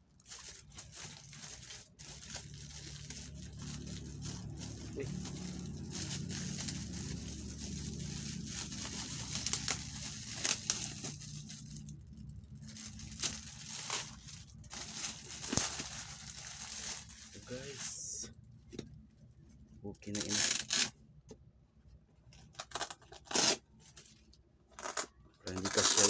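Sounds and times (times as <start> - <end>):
plastic wrap crinkling and tearing: 0.0 - 18.3, 20.0 - 20.9, 22.3 - 26.0.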